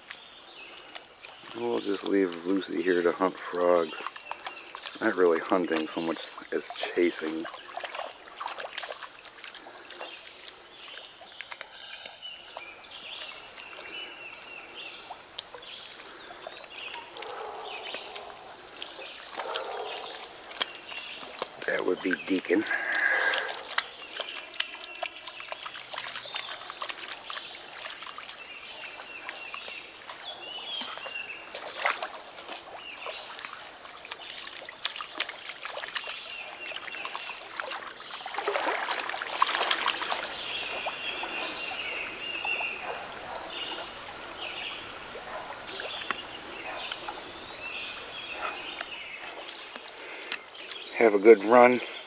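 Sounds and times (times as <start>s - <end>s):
birds chirping: 0.0s - 52.0s
river water splashing: 0.0s - 52.0s.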